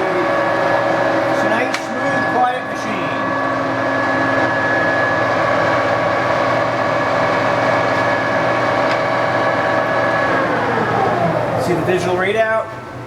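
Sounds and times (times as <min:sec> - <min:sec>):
lathe gear whine: 0:00.0 - 0:13.0.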